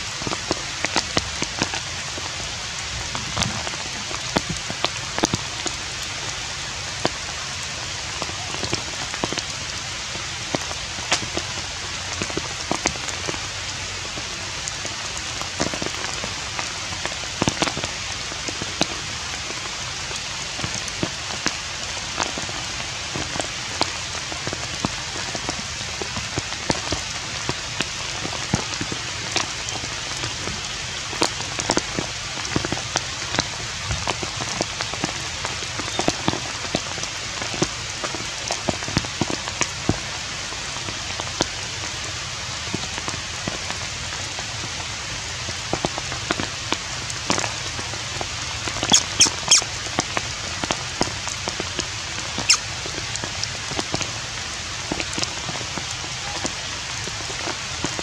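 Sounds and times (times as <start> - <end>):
rain drop ticks: 0.0 - 58.0
steady rain: 0.0 - 58.0.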